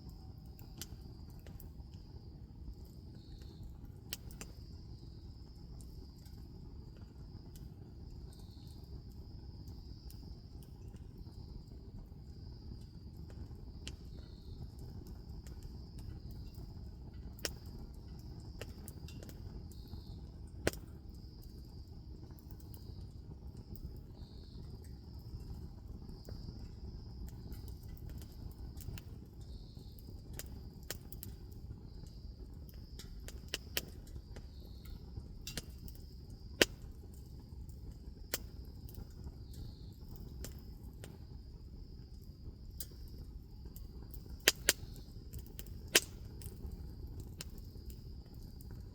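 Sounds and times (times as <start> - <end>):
bonfire crackling and popping: 0.0 - 48.9
low rumble of burning: 0.0 - 48.9
insects trilling: 3.1 - 48.9.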